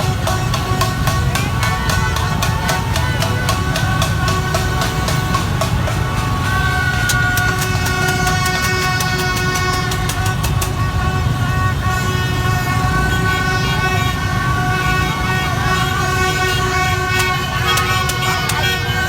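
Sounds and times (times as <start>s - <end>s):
rapid sharp beats: 0.0s - 12.0s, 14.5s - 19.0s
motorbike engines rumbling: 0.0s - 19.0s.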